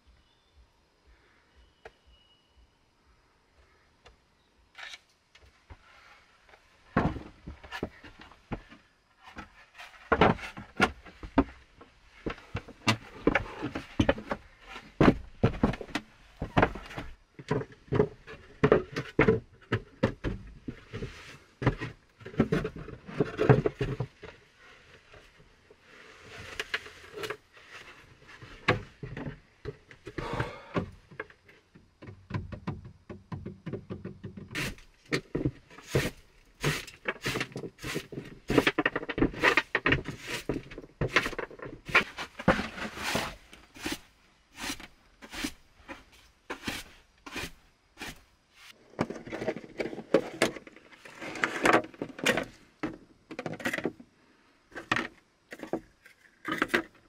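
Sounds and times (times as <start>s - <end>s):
wooden knocks and scrapes: 5.7s - 54.0s.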